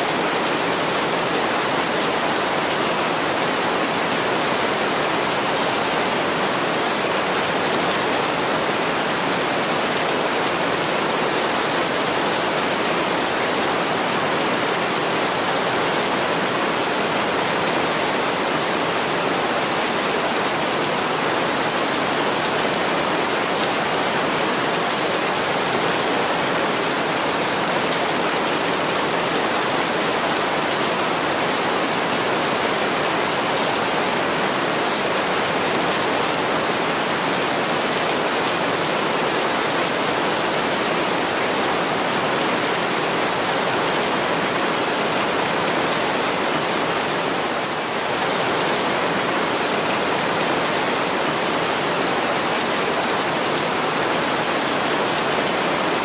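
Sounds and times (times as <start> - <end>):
heavy rain on a window: 0.1 - 56.0.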